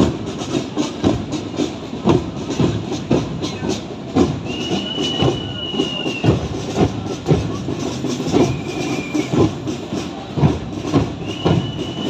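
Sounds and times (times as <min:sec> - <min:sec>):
marching crowd: 0:00.0 - 0:12.0.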